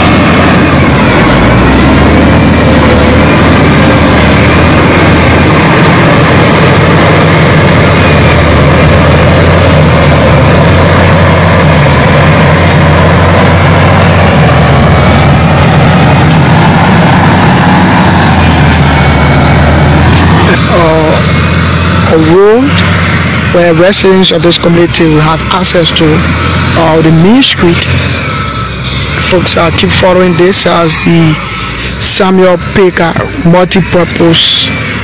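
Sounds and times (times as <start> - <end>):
wheel loader diesel engine running: 0.0 - 35.0.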